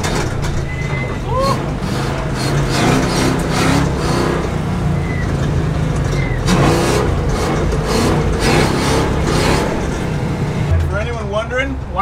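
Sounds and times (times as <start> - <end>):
brakes squealing: 0.0 - 12.0
truck engine and tyres rumbling: 0.0 - 12.0.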